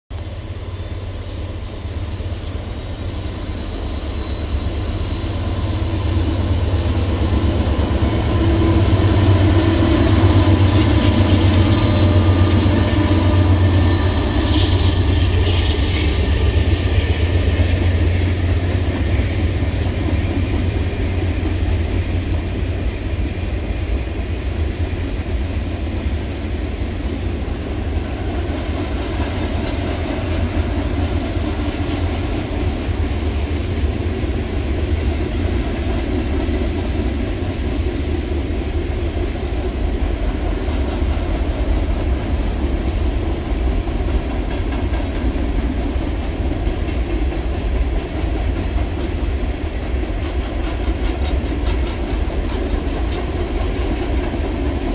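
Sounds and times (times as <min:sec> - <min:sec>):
train wheels rumbling on bridge: 0:00.1 - 0:54.9.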